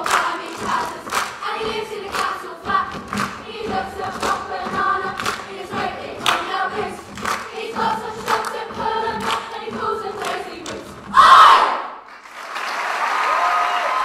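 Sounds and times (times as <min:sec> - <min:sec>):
group singing in unison: 0:00.0 - 0:11.8.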